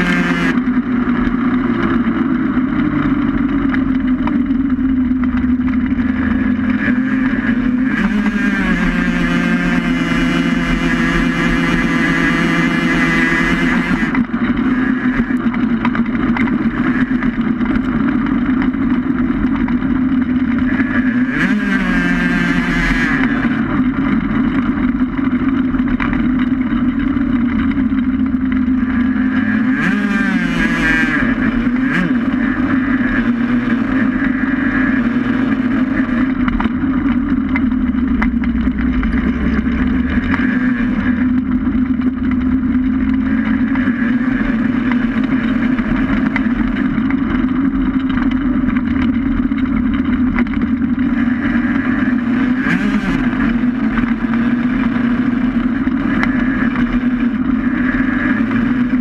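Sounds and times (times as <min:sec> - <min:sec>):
racing vehicle engine running: 0:00.0 - 0:59.0.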